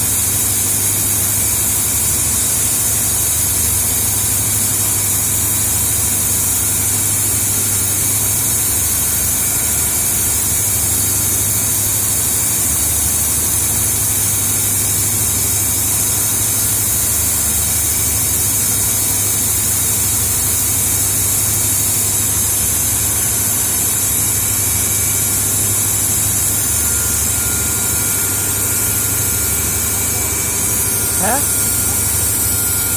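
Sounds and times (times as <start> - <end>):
air compressor hissing and humming: 0.0 - 32.9.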